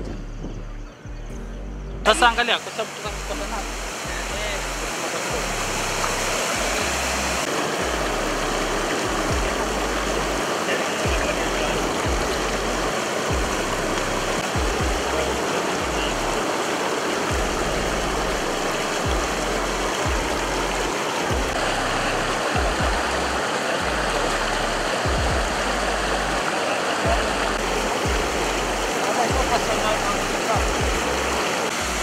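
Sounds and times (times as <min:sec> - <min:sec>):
low music bass line: 0:00.0 - 0:16.5, 0:17.3 - 0:32.0
floodwater rushing: 0:02.1 - 0:32.0.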